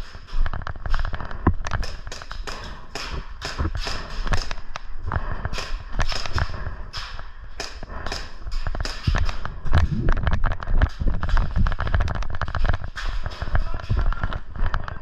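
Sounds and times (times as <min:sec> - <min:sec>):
low thuds of movement: 0:02.5 - 0:15.0.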